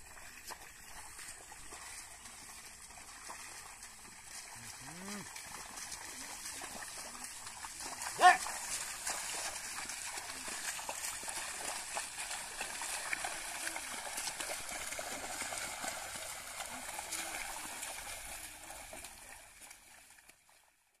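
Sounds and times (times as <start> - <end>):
splashing and squelching mud: 0.0 - 20.6.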